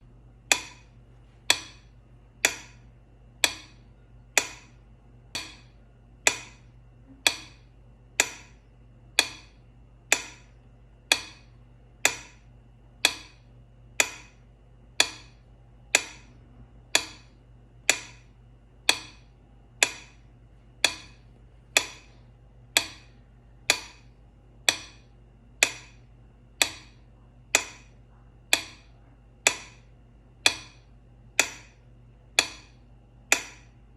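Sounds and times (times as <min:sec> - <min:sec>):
metronome ticking: 0:00.3 - 0:33.9.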